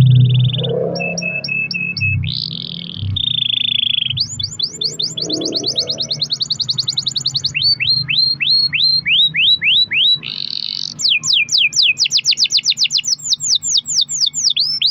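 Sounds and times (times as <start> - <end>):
canary singing trills: 0.0 - 14.9.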